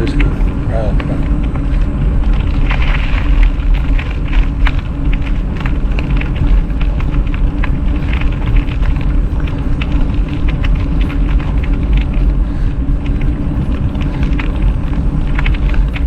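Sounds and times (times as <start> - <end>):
bike tyres rolling: 0.0 - 16.0
wind buffeting microphone: 0.0 - 16.0
small scattered clicks: 0.1 - 16.0.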